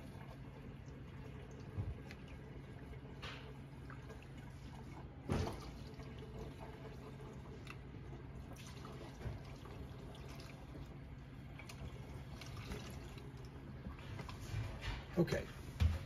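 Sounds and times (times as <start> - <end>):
liquid trickling and dripping: 0.0 - 16.0.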